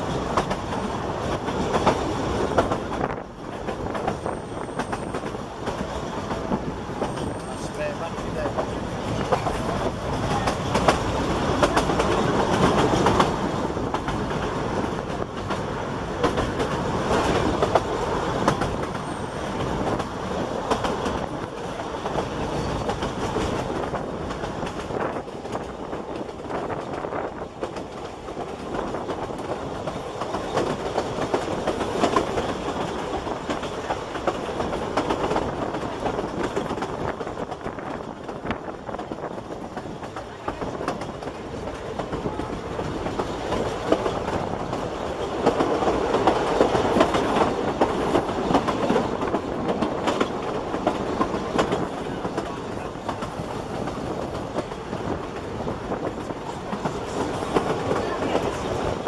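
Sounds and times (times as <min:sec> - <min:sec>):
clickety-clack of rail joints: 0:00.0 - 0:59.0
train wheels rumbling on rail: 0:00.0 - 0:59.0.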